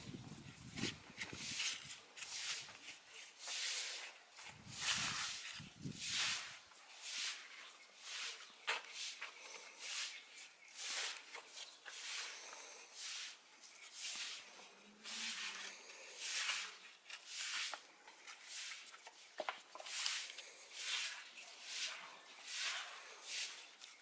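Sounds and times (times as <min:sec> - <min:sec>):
paintbrush brushing on concrete: 0:00.3 - 0:24.0.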